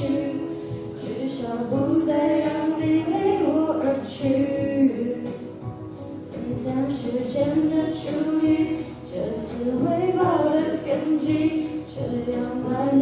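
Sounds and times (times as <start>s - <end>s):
girls singing pop duet: 0.0s - 13.0s.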